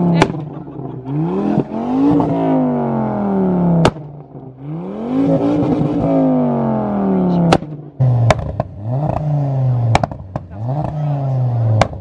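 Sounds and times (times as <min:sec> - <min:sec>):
car engine revving: 0:00.0 - 0:12.0
exhaust crack: 0:00.0 - 0:12.0.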